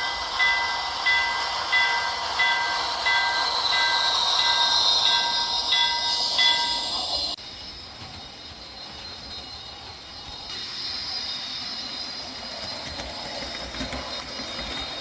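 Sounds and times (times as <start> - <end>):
model train turbine whine: 0.0 - 15.0.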